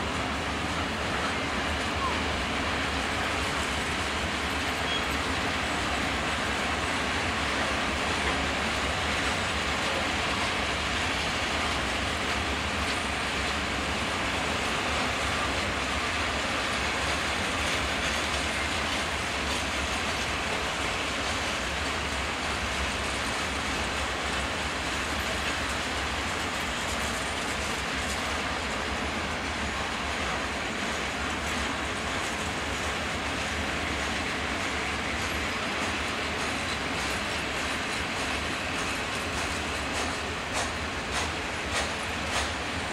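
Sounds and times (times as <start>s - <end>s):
freight train wheels on rails: 0.0s - 42.9s.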